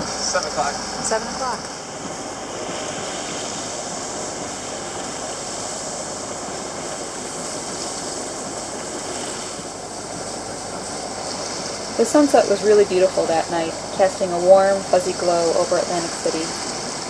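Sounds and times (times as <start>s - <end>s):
water rushing past boat hull: 0.0s - 17.0s.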